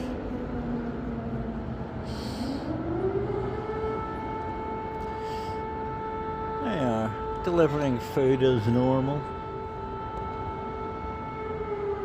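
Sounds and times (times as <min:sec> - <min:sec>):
air raid siren wailing: 0:00.0 - 0:12.0
steady background noise: 0:00.0 - 0:12.0.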